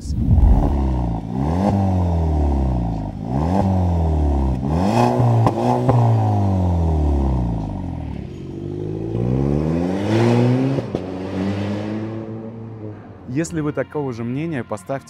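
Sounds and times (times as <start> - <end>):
car engine revving: 0.0 - 13.2
car accelerating away: 0.1 - 13.2.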